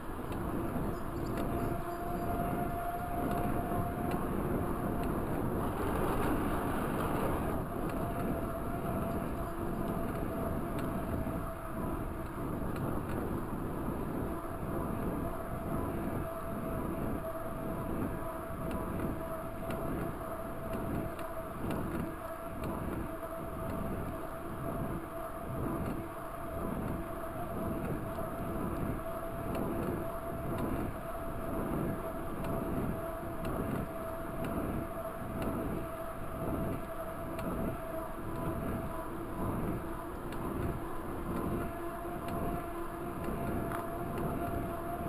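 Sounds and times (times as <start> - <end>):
bike tyres rolling on asphalt: 0.0 - 45.0
faint even hum: 0.0 - 45.0
wind on microphone: 0.0 - 45.0.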